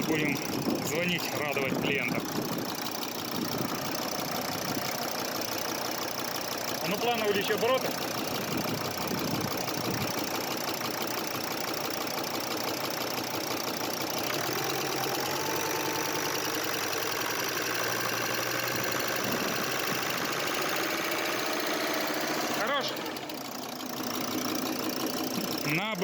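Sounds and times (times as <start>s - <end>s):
diesel engine running: 0.0s - 26.0s
hydraulic lifters chattering: 0.0s - 26.0s.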